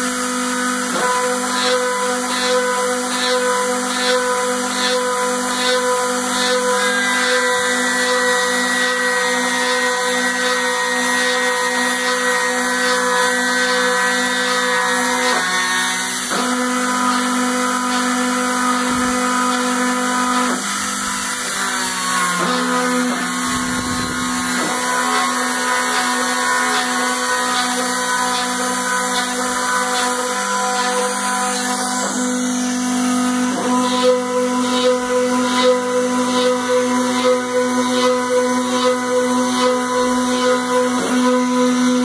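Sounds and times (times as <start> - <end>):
milling machine motor whine: 0.0 - 42.0.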